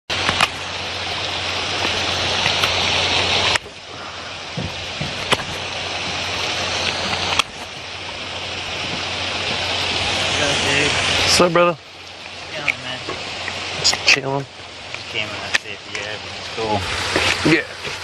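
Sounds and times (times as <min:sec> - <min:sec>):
running water: 0:00.1 - 0:18.0.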